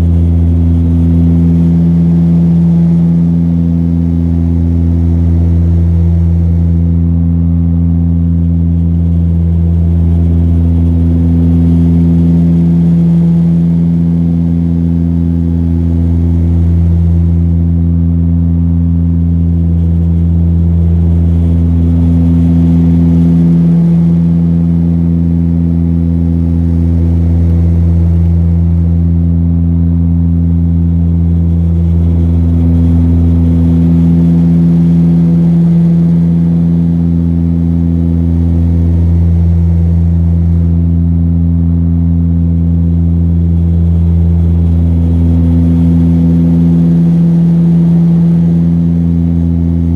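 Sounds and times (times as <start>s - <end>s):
turboprop engines droning: 0.0s - 49.9s.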